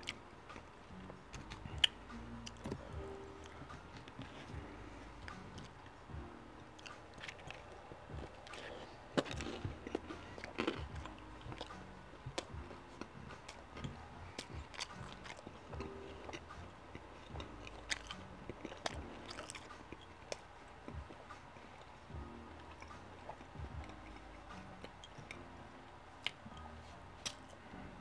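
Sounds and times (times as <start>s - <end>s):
person chewing food: 0.0s - 25.5s.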